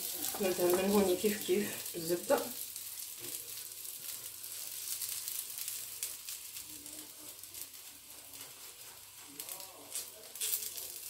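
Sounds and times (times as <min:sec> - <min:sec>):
butter sizzling on griddle: 0:00.0 - 0:11.0.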